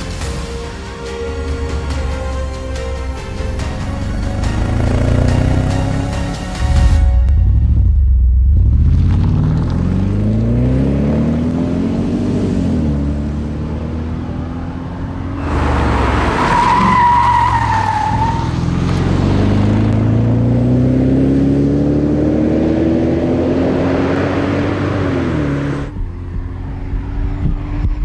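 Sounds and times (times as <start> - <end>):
car engine accelerating: 3.2 - 6.5, 7.3 - 28.0.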